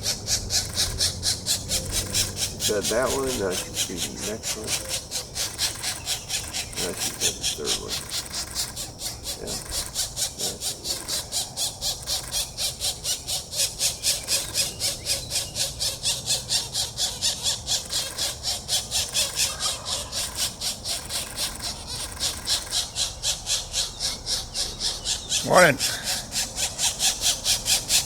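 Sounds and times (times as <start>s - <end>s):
woodpecker nestlings begging calls: 0.0s - 28.0s.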